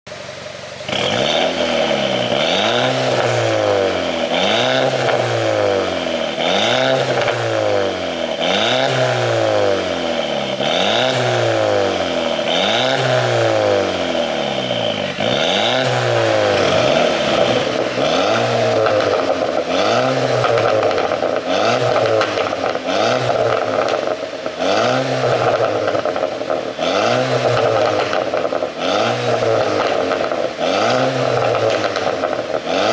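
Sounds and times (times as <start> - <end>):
car engine revving: 0.1 - 32.9
exhaust pops and crackles: 0.1 - 32.9.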